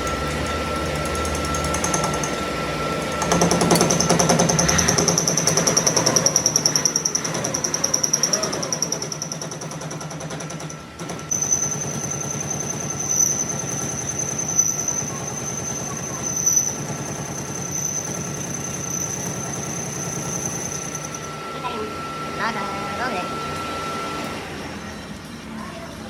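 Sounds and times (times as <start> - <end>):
metalworking machine chattering: 0.0 - 23.9
high machine whine: 0.0 - 26.0.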